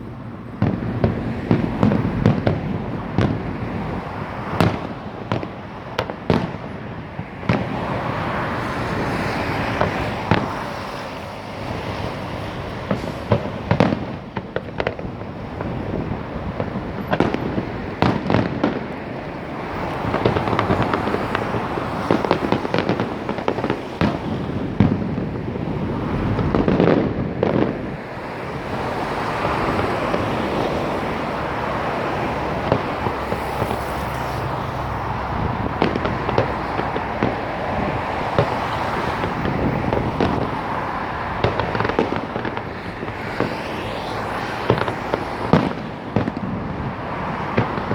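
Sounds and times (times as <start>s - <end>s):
crackling firework bursts: 0.0s - 47.9s
fireworks exploding: 0.0s - 47.9s.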